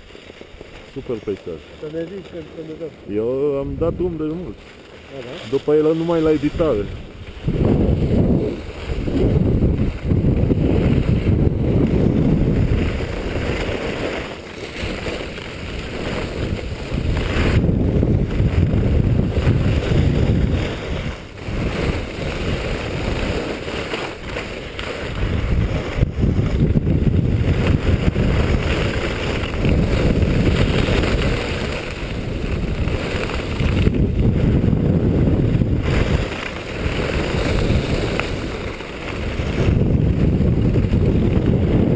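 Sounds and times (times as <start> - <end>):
skis hissing on snow: 0.0 - 41.7
wind buffeting microphone: 0.0 - 41.9.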